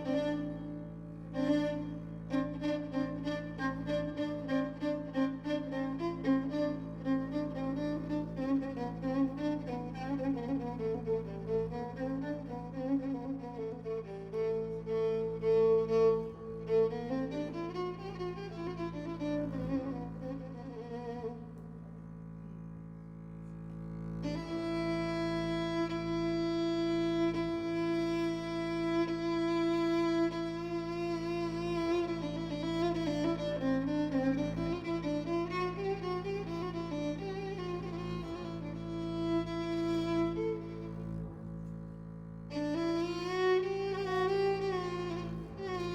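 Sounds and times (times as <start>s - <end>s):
violin melody sliding between notes: 0.0s - 21.8s, 23.4s - 41.8s, 42.5s - 45.9s
steady low accompaniment: 0.0s - 45.9s.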